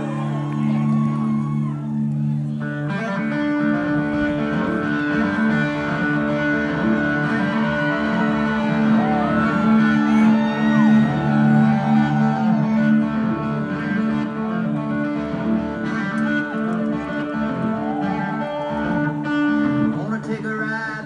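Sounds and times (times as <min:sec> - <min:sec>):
live band playing: 0:00.0 - 0:20.6
electric guitar bending notes: 0:00.0 - 0:20.9.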